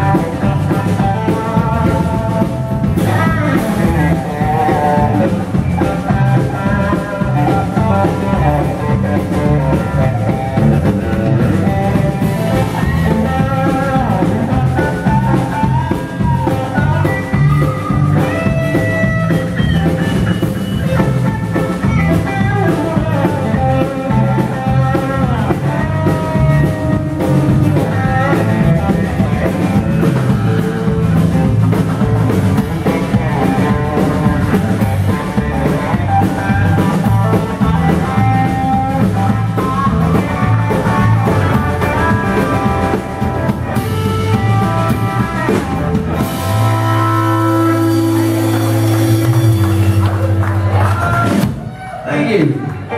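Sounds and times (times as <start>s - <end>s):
drum kit: 0.0s - 52.0s
electric guitar: 0.0s - 52.9s.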